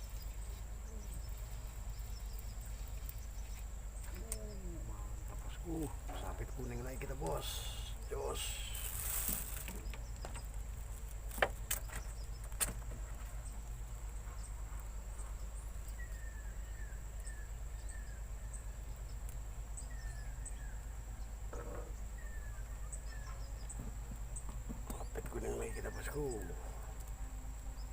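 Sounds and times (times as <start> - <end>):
insects buzzing: 0.0 - 27.9.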